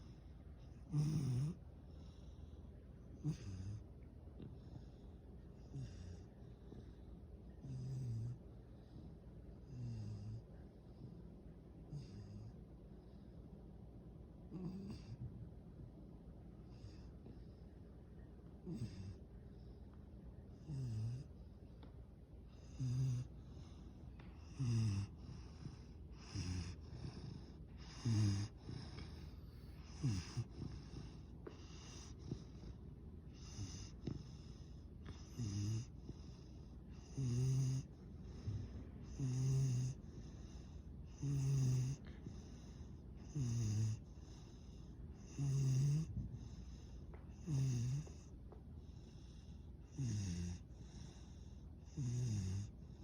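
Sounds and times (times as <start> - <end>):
puppy snoring: 0.0 - 11.2, 11.8 - 13.3, 14.4 - 15.4, 16.6 - 17.8, 18.6 - 19.8, 20.5 - 21.9, 22.5 - 53.0.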